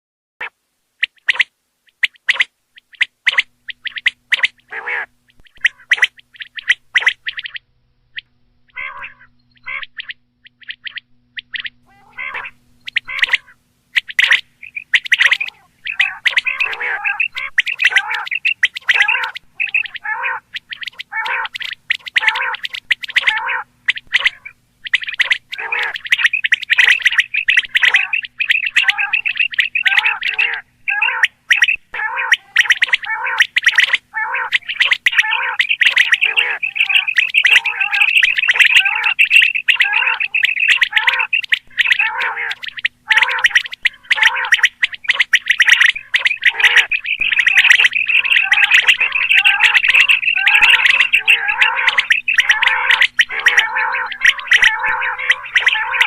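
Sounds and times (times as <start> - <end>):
quail calling: 0.4 - 56.0.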